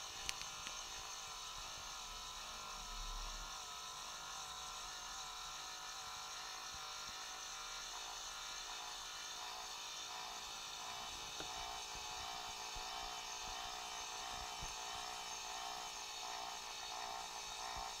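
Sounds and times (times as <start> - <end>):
small electric motor whirring: 0.0 - 18.0.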